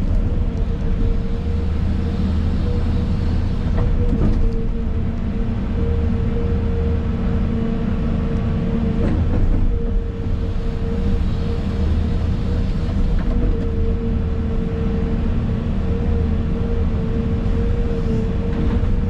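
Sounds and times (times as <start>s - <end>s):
excavator engine and hydraulics: 0.0s - 19.0s.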